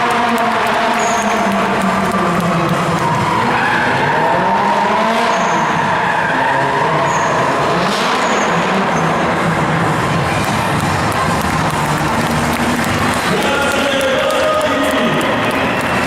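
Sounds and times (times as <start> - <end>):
car engine revving: 0.0 - 16.0
tyres skidding and squealing: 0.4 - 16.0.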